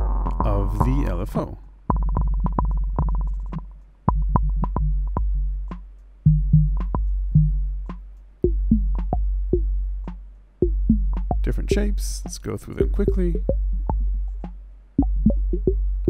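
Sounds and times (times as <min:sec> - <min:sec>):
drum machine beat: 0:00.0 - 0:16.0.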